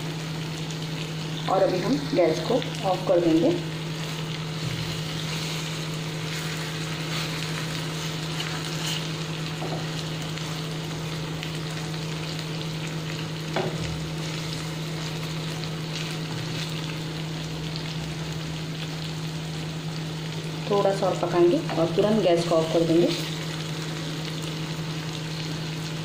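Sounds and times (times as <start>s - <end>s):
gravy bubbling and sizzling: 0.0s - 26.0s.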